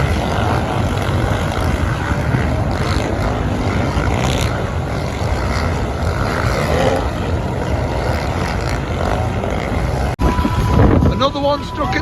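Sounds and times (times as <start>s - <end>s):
motorbike and quad engines droning: 0.0s - 12.0s.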